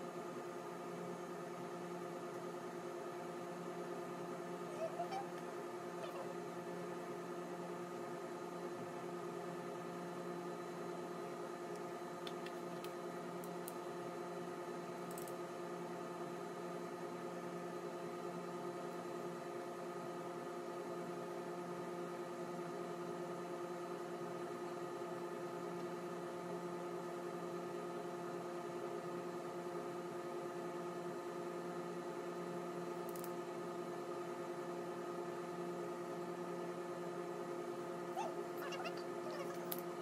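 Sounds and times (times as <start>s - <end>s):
steady hum of held tones: 0.0s - 40.0s.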